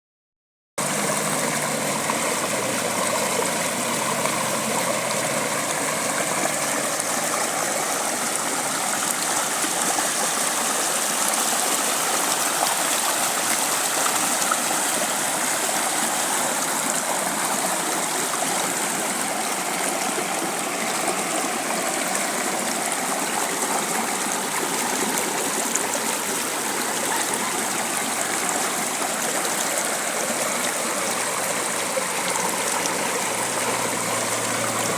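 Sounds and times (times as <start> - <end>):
stream running over rocks: 0.8 - 34.9.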